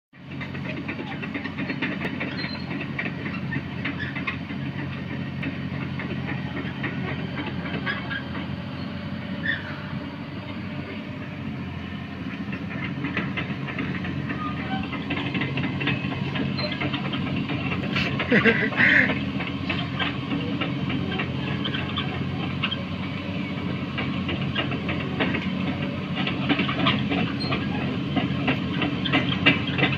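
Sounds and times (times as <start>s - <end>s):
excavator diesel engine running: 0.1s - 29.9s
ticking and rattling: 0.2s - 29.9s.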